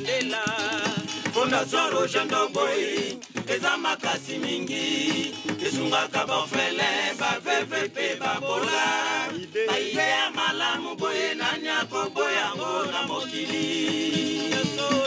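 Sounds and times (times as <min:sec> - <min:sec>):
men singing together: 0:00.0 - 0:15.0
sharp repeated percussion: 0:00.0 - 0:15.0.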